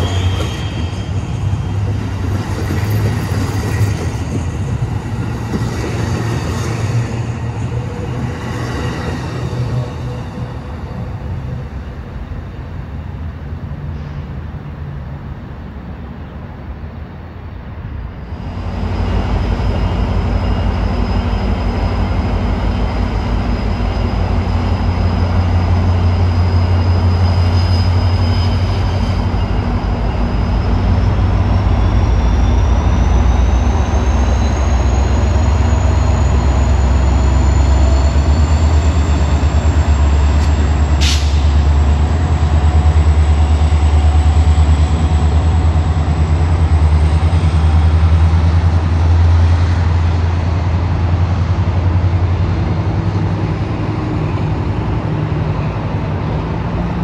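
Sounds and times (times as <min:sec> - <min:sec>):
diesel locomotive engine drone: 0:00.0 - 0:57.0
train rumble: 0:00.0 - 0:57.0.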